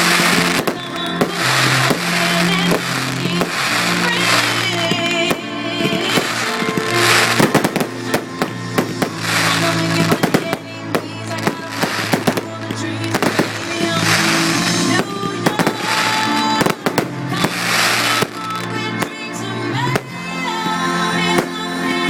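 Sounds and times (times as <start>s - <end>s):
fireworks bangs and crackles: 0.0s - 19.3s, 21.2s - 21.8s
loud music: 0.0s - 22.0s.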